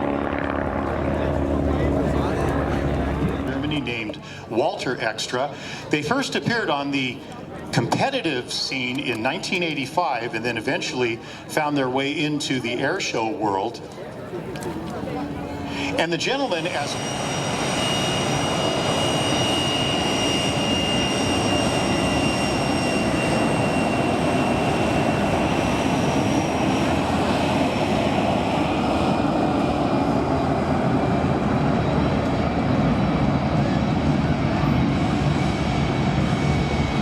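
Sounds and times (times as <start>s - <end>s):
airplane engine roar overhead: 0.0s - 37.0s.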